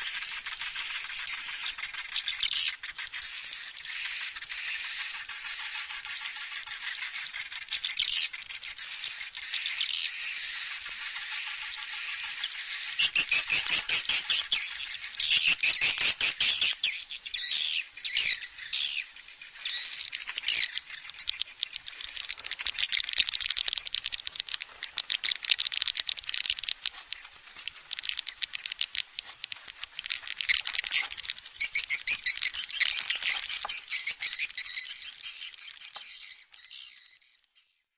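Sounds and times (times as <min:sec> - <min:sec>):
swiftlet calls twittering: 0:00.0 - 0:37.5.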